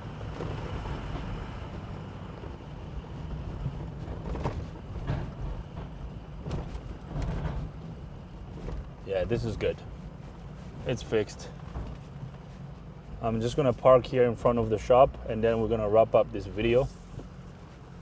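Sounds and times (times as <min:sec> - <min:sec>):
diesel truck engine rumble: 0:00.0 - 0:18.0
road noise: 0:00.0 - 0:18.0.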